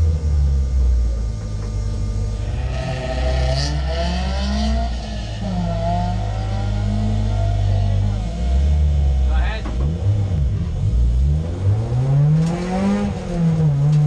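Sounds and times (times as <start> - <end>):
car engine idling: 0.0 - 14.0
another car engine revving: 2.2 - 14.0.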